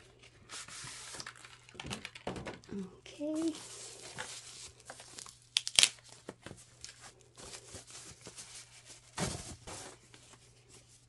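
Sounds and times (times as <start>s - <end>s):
plastic packaging rustling and crinkling: 0.0s - 11.0s.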